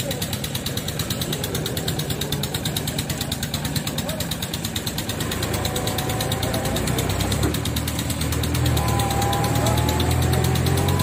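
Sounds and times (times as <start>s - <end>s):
diesel engine knocking: 0.0s - 11.0s.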